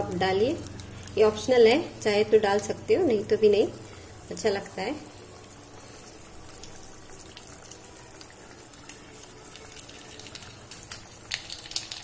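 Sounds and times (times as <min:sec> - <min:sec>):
curry simmering and bubbling: 0:00.0 - 0:12.0.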